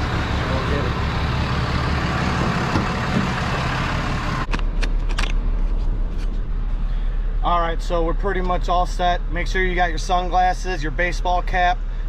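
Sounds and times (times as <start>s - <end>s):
truck engine idling: 0.0s - 12.0s
low steady hum inside cab: 2.0s - 12.0s.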